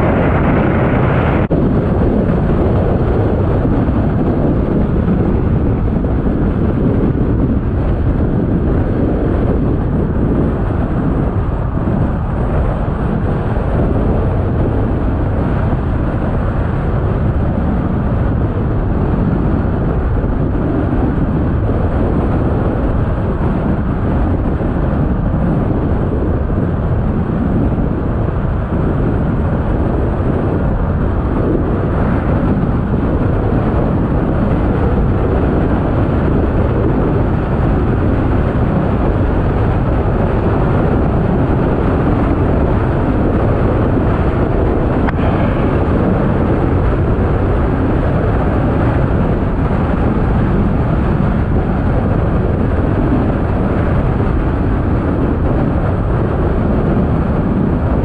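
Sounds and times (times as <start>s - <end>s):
car tyres rumbling on asphalt: 0.0s - 58.0s.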